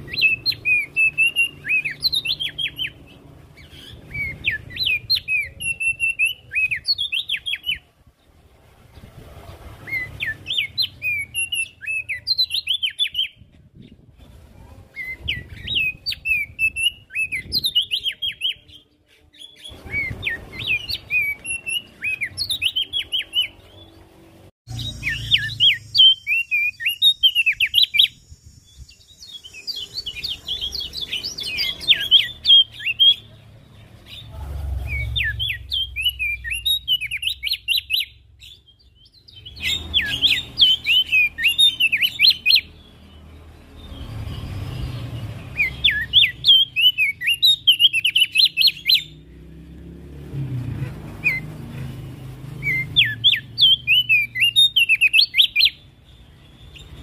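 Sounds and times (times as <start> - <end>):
bird singing high chattering notes: 0.0 - 7.9, 9.8 - 14.1, 14.9 - 24.0, 24.7 - 49.5, 52.5 - 57.0.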